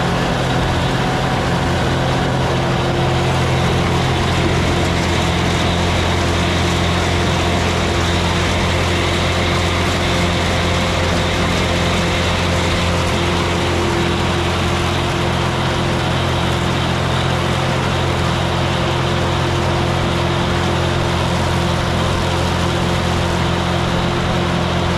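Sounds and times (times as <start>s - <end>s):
tractor engine droning: 0.0s - 24.9s.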